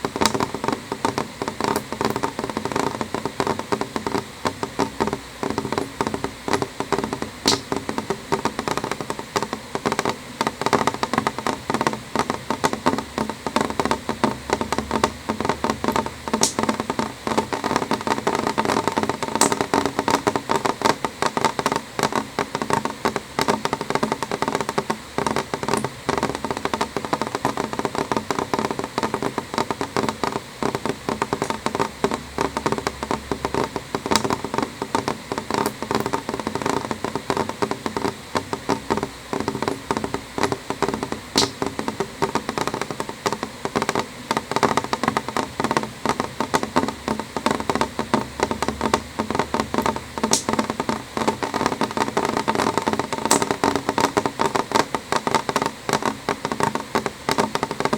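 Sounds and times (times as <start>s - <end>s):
rain tapping on window glass: 0.0s - 57.9s.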